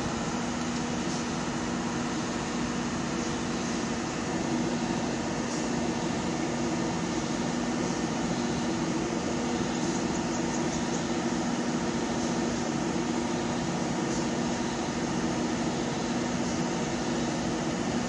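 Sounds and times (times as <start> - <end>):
machinery hum with hiss: 0.0 - 18.0.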